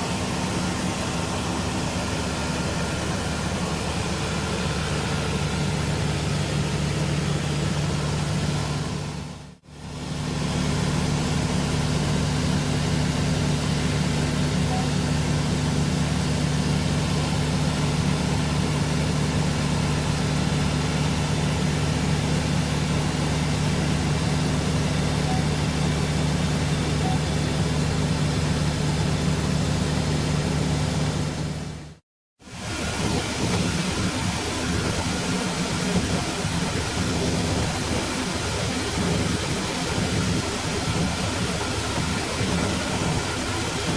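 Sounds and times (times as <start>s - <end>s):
combine harvester running: 0.0s - 43.9s.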